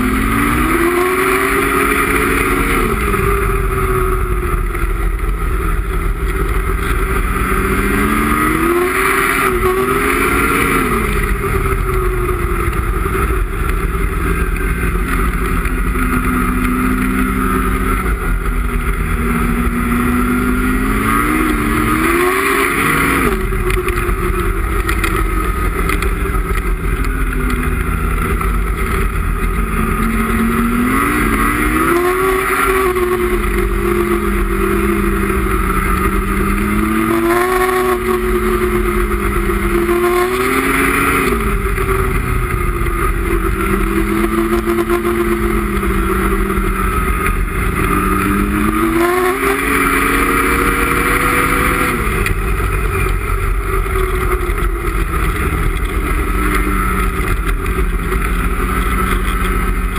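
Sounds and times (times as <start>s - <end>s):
snowmobile engine revving: 0.0s - 59.9s
steady rushing noise: 0.0s - 59.9s.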